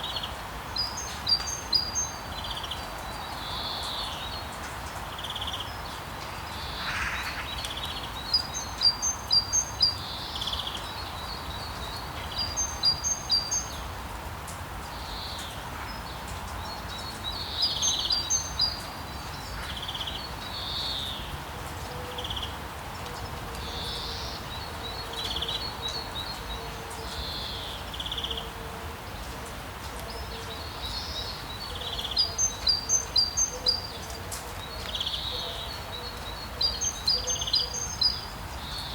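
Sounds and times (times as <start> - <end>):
songbirds calling: 0.0 - 13.9, 14.8 - 38.9.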